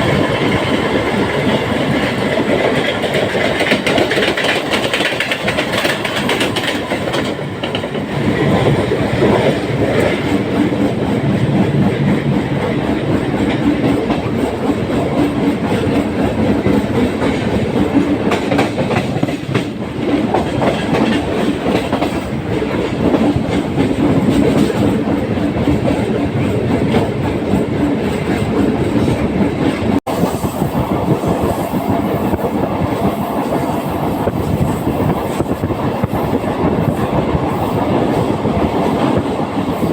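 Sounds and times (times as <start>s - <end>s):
train carriage rattling: 0.0s - 39.9s
train wheels clickety-clack: 0.0s - 39.9s.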